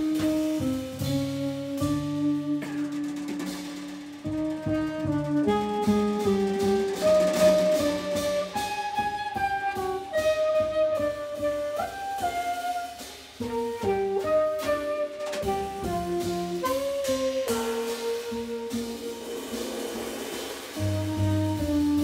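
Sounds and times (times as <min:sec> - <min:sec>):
alto saxophone melody: 0:00.0 - 0:20.1, 0:20.7 - 0:22.0
drum kit with cymbals: 0:00.0 - 0:22.0
walking double bass: 0:00.0 - 0:22.0.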